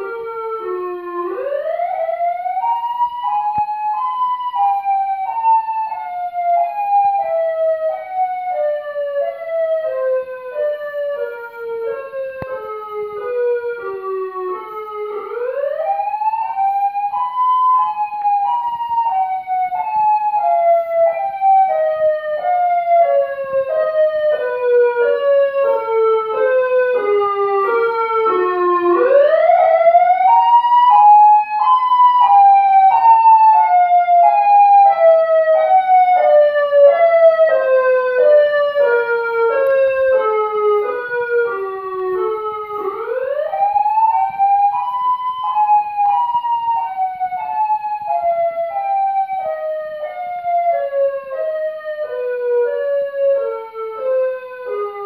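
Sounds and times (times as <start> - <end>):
siren wail from stereo: 0.0 - 55.0.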